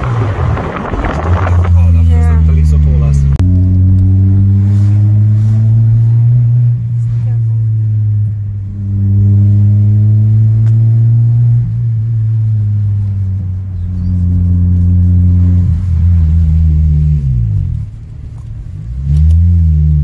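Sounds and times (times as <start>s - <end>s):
car engine droning in cabin: 0.0s - 20.0s.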